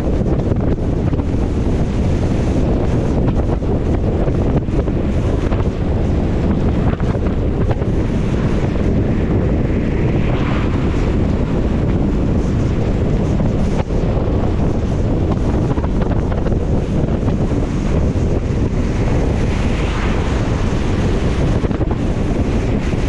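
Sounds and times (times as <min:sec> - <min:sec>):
wind noise: 0:00.0 - 0:23.0.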